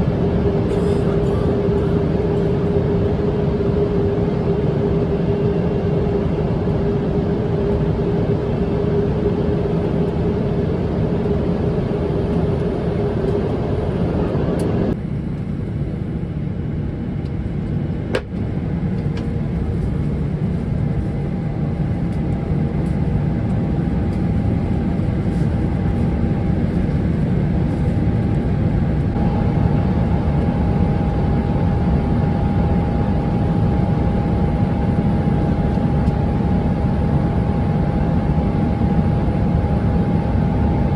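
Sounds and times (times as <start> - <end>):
airplane cabin engine rumble: 0.0 - 40.9
steady hum: 0.0 - 40.9.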